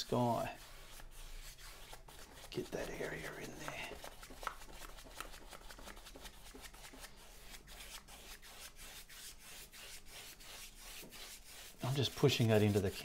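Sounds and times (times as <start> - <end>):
paintbrush scrubbing canvas: 0.0 - 13.0.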